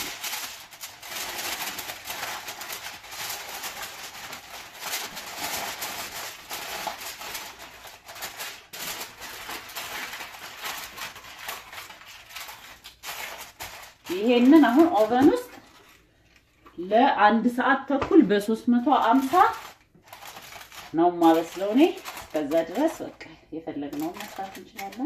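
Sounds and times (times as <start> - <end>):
aluminium foil crinkling: 0.0 - 16.8, 18.5 - 25.0.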